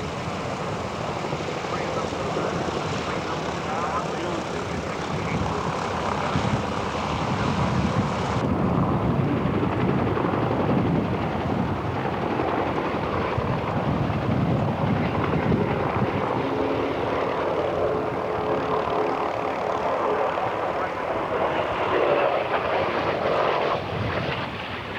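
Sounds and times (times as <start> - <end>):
aircraft engine drone: 0.0 - 24.9.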